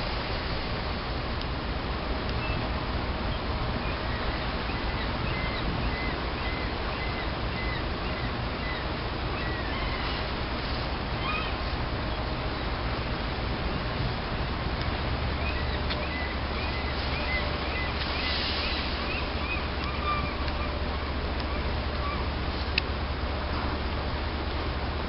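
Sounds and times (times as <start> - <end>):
ferry engine low rumble: 0.0 - 25.0.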